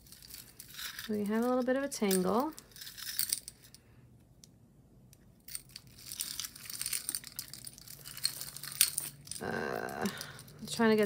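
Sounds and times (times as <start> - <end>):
jewelry chains clinking: 0.0 - 3.8, 5.4 - 11.0
rustling: 0.0 - 3.9, 5.3 - 11.0.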